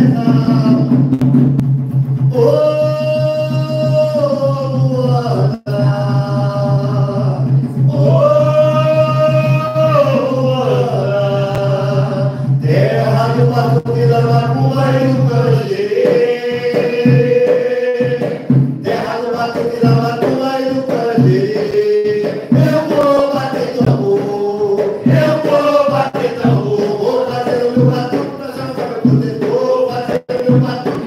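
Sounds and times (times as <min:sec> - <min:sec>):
voices singing a devotional chant: 0:02.3 - 0:31.0.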